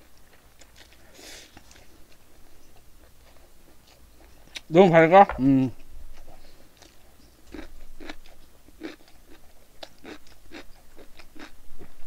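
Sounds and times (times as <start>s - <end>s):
person chewing food: 0.0s - 4.7s, 5.8s - 12.0s.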